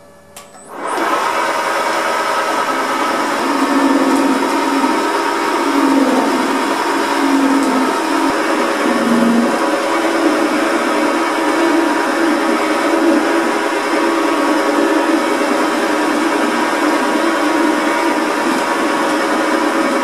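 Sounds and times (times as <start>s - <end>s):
wood lathe running: 0.7s - 20.0s.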